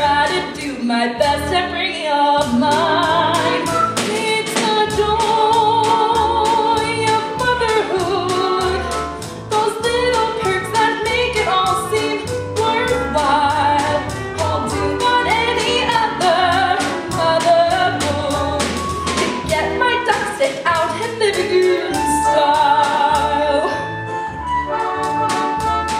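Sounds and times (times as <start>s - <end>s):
woman singing: 0.0s - 23.9s
band accompaniment: 0.0s - 25.9s.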